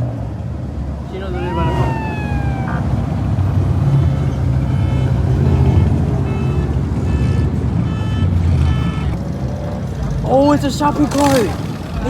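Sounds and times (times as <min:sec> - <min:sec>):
car engine rumbling: 0:00.1 - 0:12.0.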